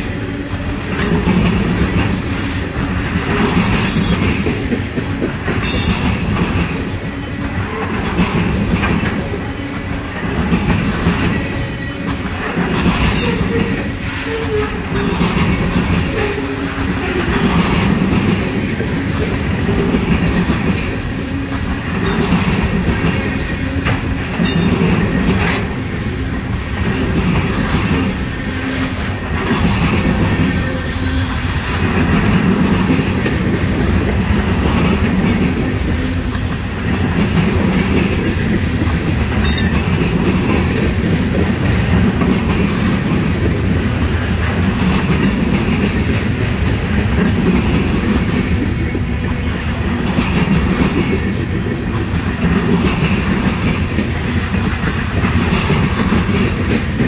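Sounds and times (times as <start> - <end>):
clickety-clack over rail joints: 0.0 - 57.0
steel wheels rumbling on rail: 0.0 - 57.0.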